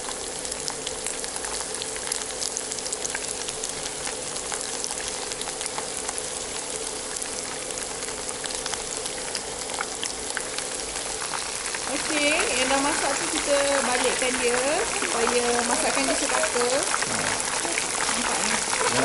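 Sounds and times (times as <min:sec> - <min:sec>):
chicken deep-frying in oil: 0:00.0 - 0:19.0
faint steady hum: 0:00.0 - 0:19.0.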